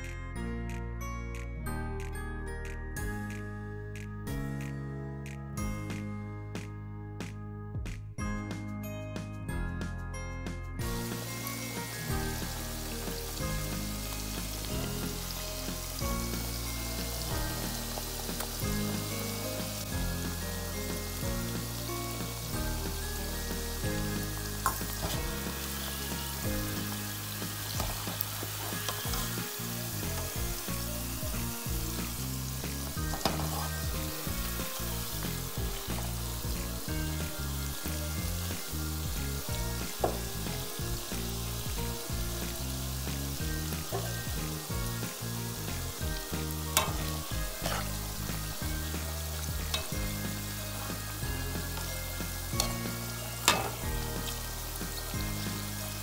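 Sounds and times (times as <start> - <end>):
chicken skin sizzling in oil: 10.8 - 56.0.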